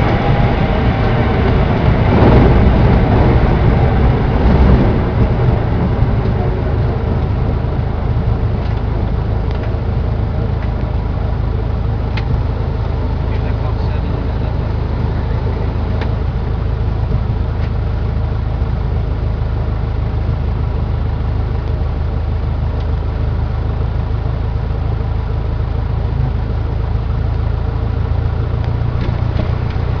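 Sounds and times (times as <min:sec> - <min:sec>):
light aircraft engine droning: 0:00.0 - 0:30.0.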